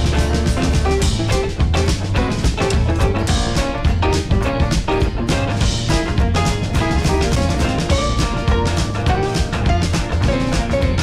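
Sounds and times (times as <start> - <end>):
drum and bass music: 0.0 - 11.0.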